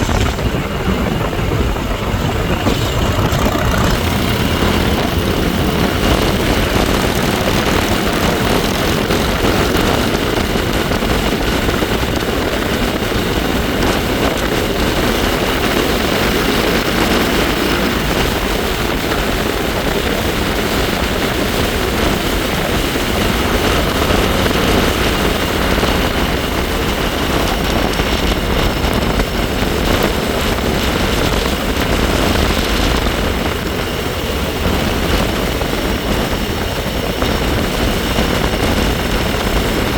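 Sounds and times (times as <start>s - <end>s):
bike engine drone: 0.0s - 39.9s
wind rushing over microphone: 0.0s - 39.9s.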